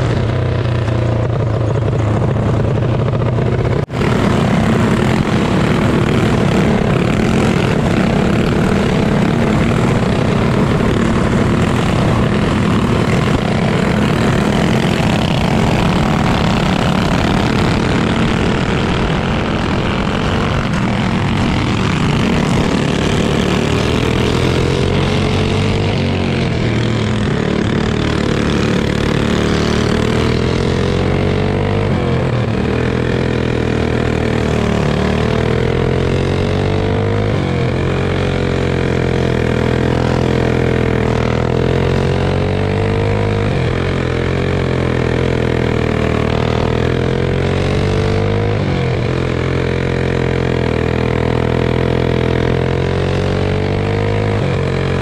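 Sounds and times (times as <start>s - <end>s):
go-kart engine running hard: 0.0s - 55.0s
other go-kart engines: 0.0s - 55.0s.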